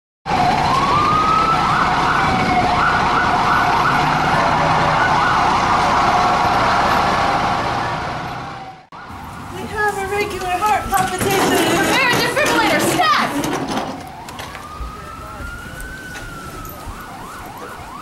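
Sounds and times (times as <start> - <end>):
emergency vehicle siren wailing: 0.3 - 18.0.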